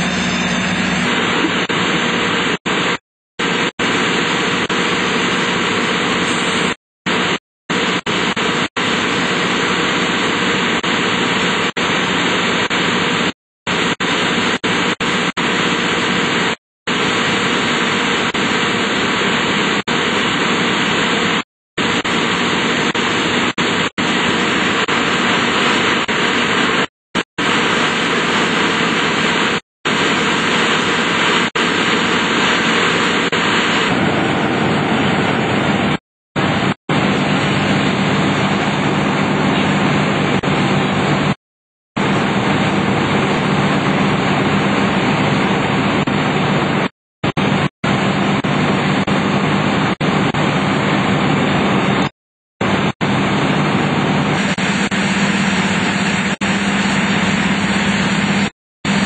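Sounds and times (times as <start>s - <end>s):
loud rushing water pump: 0.0s - 41.4s, 42.0s - 59.0s.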